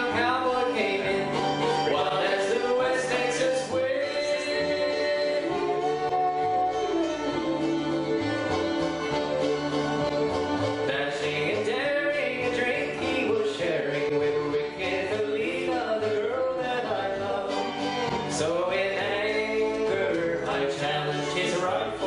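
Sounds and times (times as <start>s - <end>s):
acoustic guitar: 0.0s - 22.0s
double bass: 0.0s - 22.0s
sliding lead string line: 0.0s - 22.0s.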